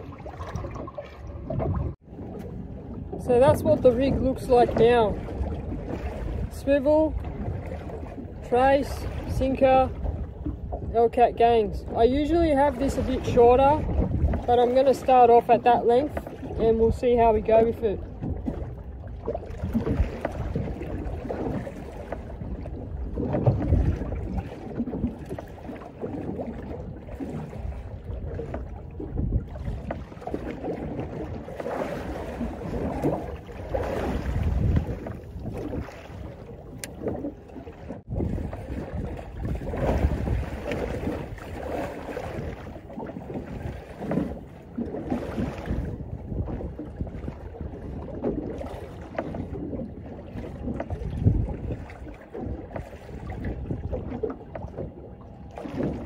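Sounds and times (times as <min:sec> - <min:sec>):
wind gusting on microphone: 0:00.0 - 0:55.0
water washing around boat: 0:00.0 - 0:56.0.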